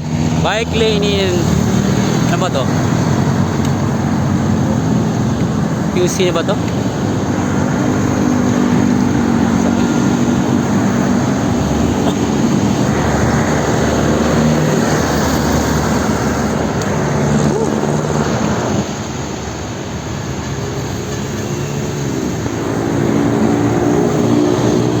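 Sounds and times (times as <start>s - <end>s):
vehicle engines humming: 0.0s - 25.0s.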